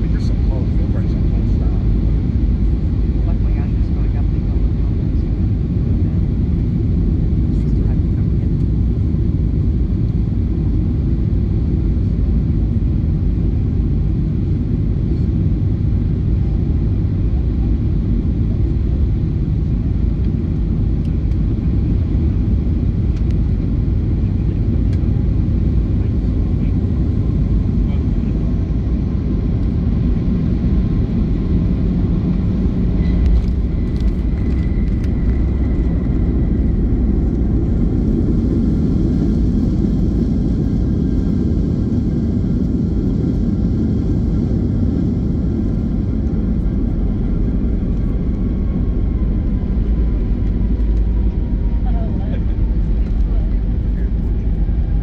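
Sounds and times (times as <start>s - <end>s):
jet engines and airflow rumble: 0.0s - 55.0s.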